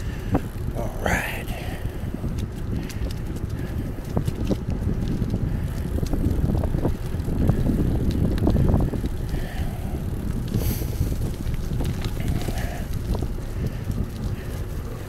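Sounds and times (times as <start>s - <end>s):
bicycle tyre noise: 0.0s - 15.0s
bike clicks and rattles: 0.0s - 15.0s
wind rumble on microphone: 0.0s - 15.0s.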